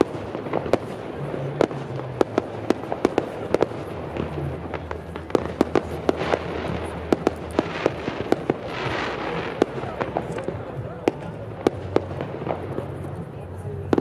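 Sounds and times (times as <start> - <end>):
fireworks bangs: 0.0 - 14.0
fireworks crackle and rumble: 0.0 - 14.0.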